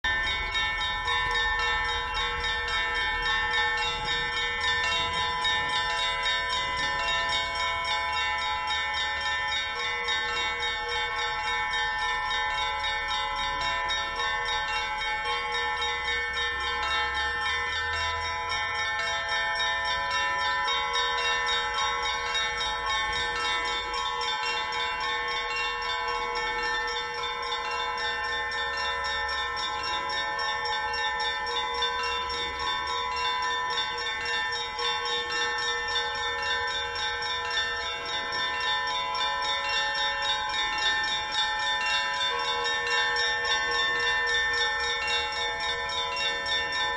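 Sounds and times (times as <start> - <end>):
large bells ringing: 0.0 - 46.9.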